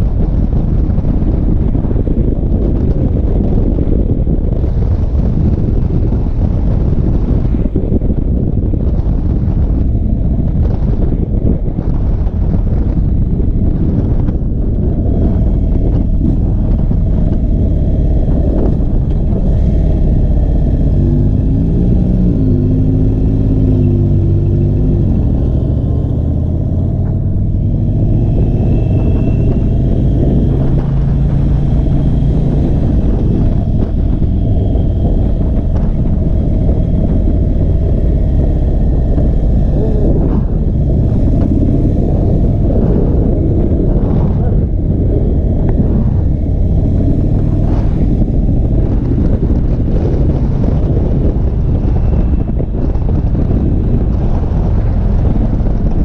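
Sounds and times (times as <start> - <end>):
motorcycle engine: 0.0 - 56.0
wind rushing over microphone: 0.0 - 56.0.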